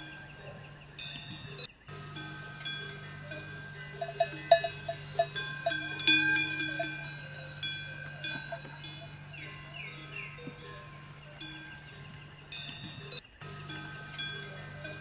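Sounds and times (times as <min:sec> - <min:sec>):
small metal bells clanking: 0:00.0 - 0:15.0
steady low hum: 0:00.0 - 0:15.0.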